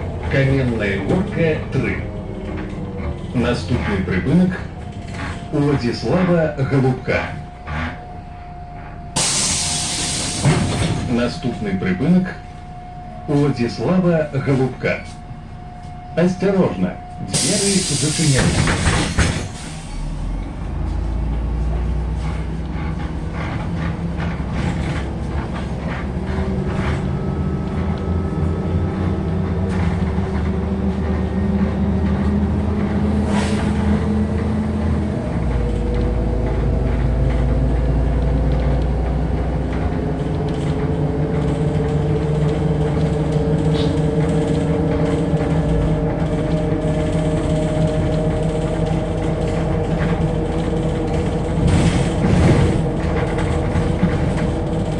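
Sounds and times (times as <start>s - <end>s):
bus body clicks and rattles: 0.0s - 6.2s, 8.8s - 11.4s, 17.4s - 19.8s, 21.3s - 54.9s
bus diesel engine accelerating: 0.0s - 54.9s.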